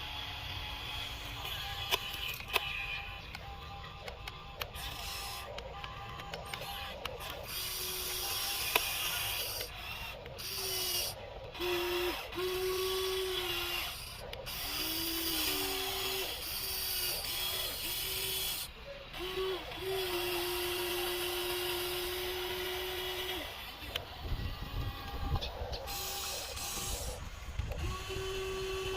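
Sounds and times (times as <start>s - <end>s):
small electric motors whining: 0.0s - 28.9s.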